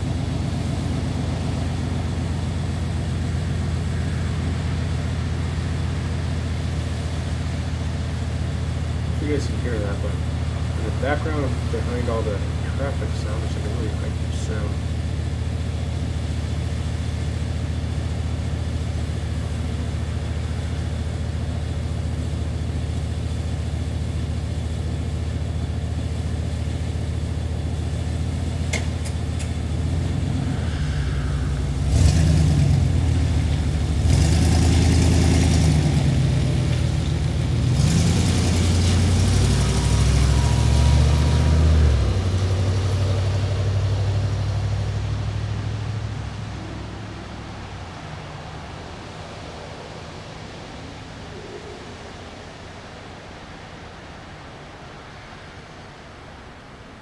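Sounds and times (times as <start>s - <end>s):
road traffic hum: 0.0s - 57.0s
vehicles passing close by: 0.0s - 57.0s.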